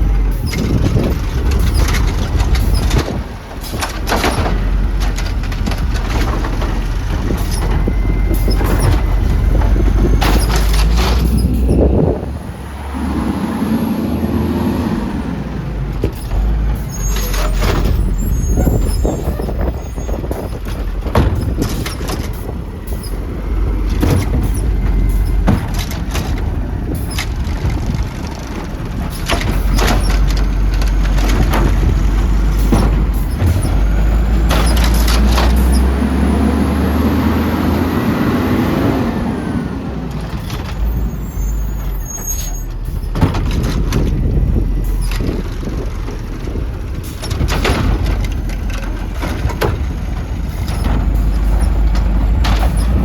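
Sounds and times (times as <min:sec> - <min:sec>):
metal clanks and knocks: 0:00.0 - 0:11.9, 0:16.0 - 0:23.2, 0:23.8 - 0:36.0, 0:41.8 - 0:53.0
wind buffeting microphone: 0:00.0 - 0:16.8, 0:17.5 - 0:41.2, 0:42.8 - 0:53.0
garbage truck engine revving: 0:00.0 - 0:53.0.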